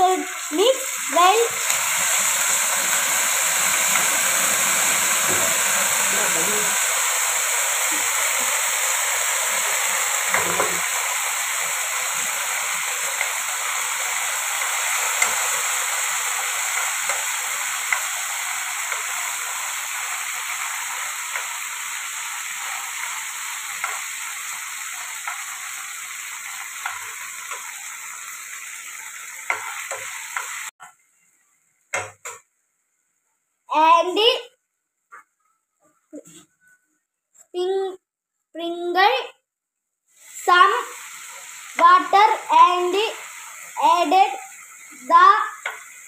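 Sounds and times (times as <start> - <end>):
food sizzling in hot oil: 0.0 - 32.6, 40.1 - 46.0.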